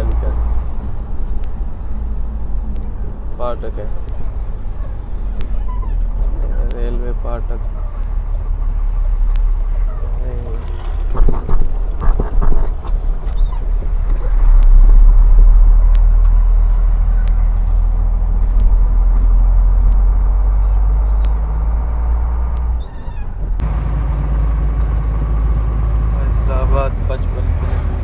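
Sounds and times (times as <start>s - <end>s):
truck diesel engine rumble: 0.0s - 28.0s.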